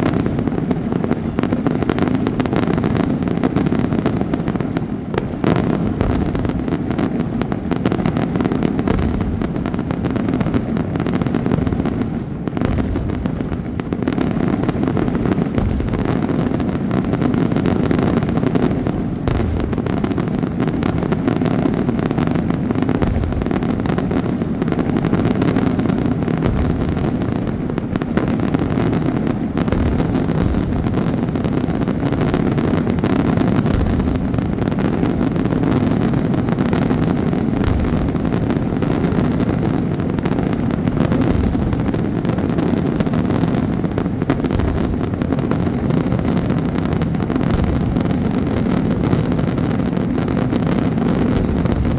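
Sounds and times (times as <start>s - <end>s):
fireworks barrage: 0.0s - 51.9s.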